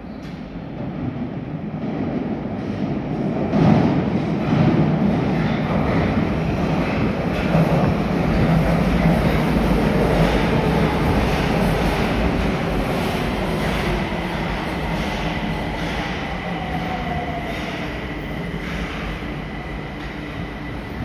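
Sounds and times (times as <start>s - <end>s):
electric train pulling into station: 0.0s - 21.0s.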